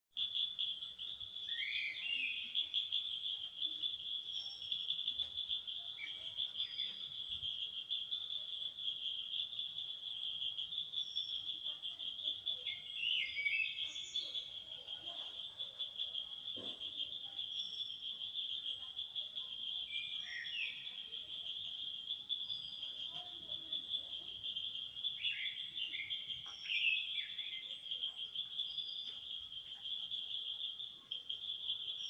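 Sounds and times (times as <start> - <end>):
faint high bird chirps: 0.1 - 8.7, 9.5 - 32.0
insects trilling: 0.2 - 32.0.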